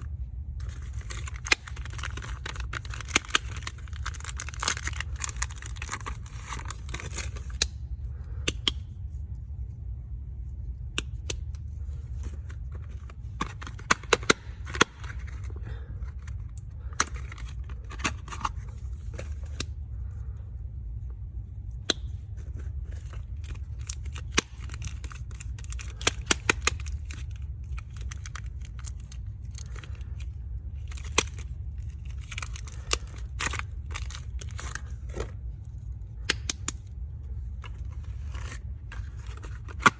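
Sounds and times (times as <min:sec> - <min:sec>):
packaging crinkling and tearing: 0:00.0 - 0:07.7, 0:11.8 - 0:19.7, 0:22.4 - 0:39.9
steady low hum: 0:00.0 - 0:39.9.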